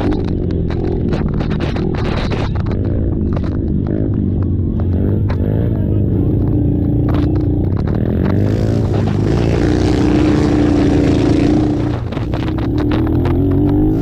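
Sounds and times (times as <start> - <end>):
atv engines at high revs: 0.0 - 14.0.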